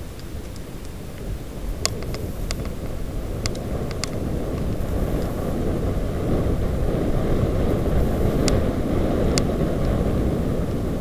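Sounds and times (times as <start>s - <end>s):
bike clicks: 0.0s - 6.5s, 7.2s - 10.1s
bike tyres rolling over dirt: 0.0s - 11.0s
wind buffeting microphone: 0.0s - 11.0s.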